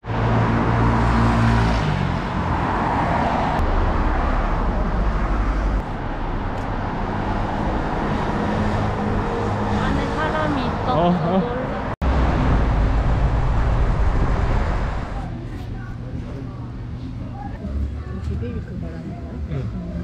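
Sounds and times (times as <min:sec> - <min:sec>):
traffic passing: 0:00.0 - 0:20.0.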